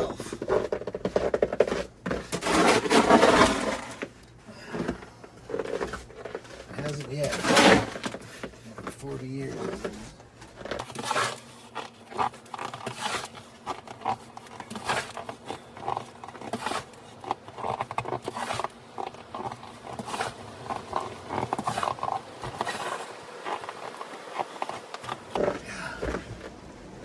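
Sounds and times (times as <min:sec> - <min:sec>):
snow shovel scraping snow: 0:01.7 - 0:04.0, 0:05.8 - 0:10.1, 0:10.8 - 0:26.3.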